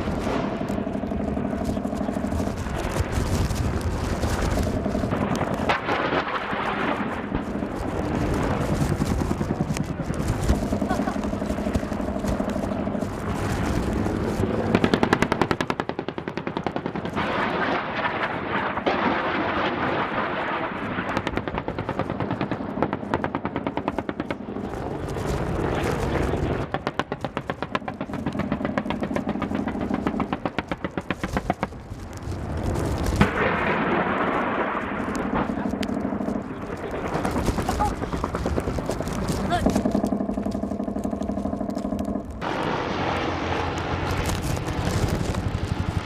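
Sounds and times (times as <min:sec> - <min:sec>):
helicopter engine hum: 0:00.0 - 0:18.9, 0:20.9 - 0:46.0.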